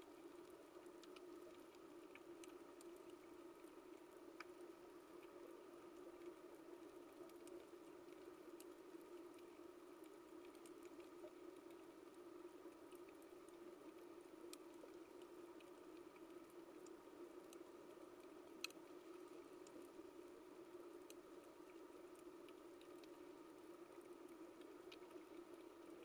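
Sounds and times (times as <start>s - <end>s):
low underwater hum: 0.0s - 26.0s
underwater clicks and crackles: 0.0s - 26.0s.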